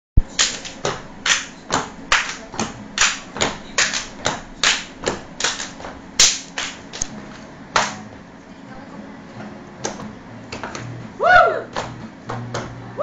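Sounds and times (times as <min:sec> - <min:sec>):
hand claps keeping a beat: 0:00.2 - 0:08.3, 0:09.4 - 0:13.0.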